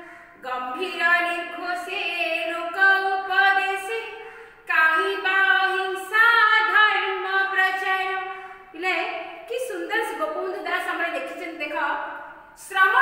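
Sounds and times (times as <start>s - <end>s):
woman singing unaccompanied: 0.0s - 12.0s, 12.6s - 13.0s.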